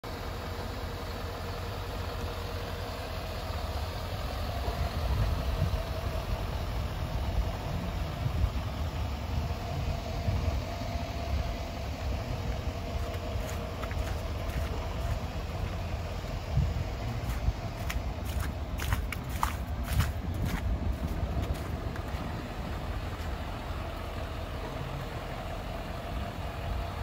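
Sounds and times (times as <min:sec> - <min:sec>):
pickup engine idling: 0:00.0 - 0:27.0.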